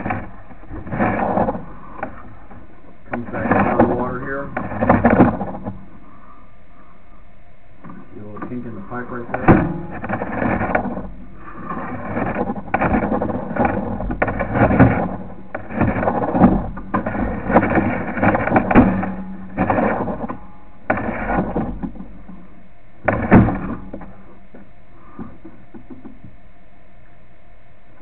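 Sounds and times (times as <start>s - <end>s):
cable scraping in drain pipe: 0.0s - 6.2s, 7.8s - 26.4s.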